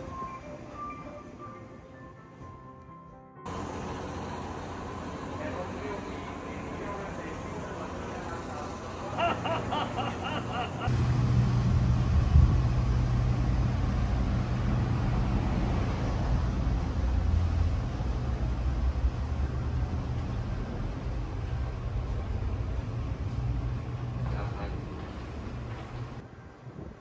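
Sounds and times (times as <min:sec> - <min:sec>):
train drone inside carriage: 0:03.5 - 0:27.0.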